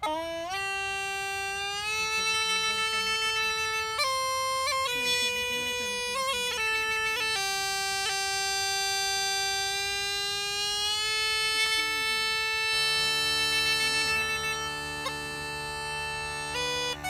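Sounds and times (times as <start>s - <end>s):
low pipe drone: 0.0s - 17.0s.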